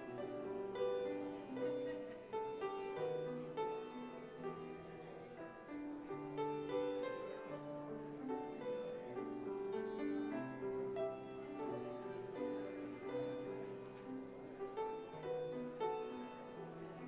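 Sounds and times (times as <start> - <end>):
slow piano keyboard music: 0.0 - 17.0.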